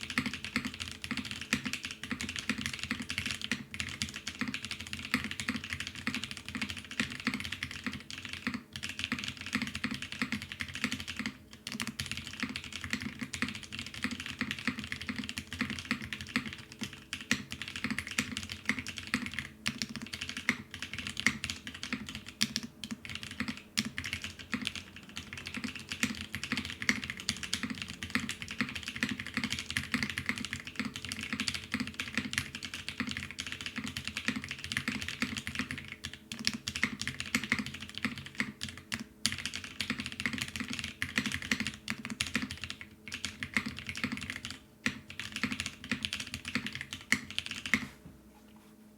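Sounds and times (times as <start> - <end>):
fast typing on mechanical keyboard: 0.0 - 47.9.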